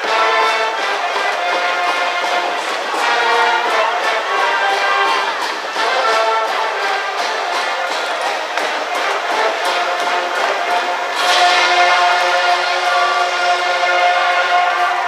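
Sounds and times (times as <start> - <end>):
brass band playing cheering tune: 0.0 - 15.0.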